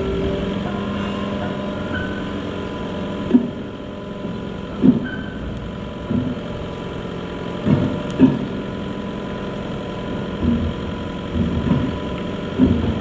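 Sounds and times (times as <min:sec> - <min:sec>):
forklift engines idling: 0:00.0 - 0:13.0.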